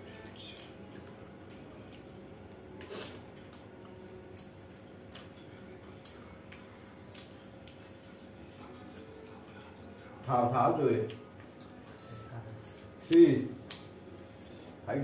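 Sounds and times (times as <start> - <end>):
chewing and smacking: 0.0 - 14.0
fingers picking at food on plates: 0.0 - 14.8.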